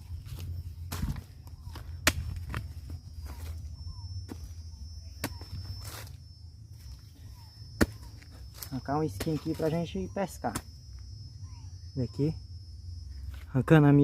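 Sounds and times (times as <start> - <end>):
low steady drone: 0.0 - 14.0.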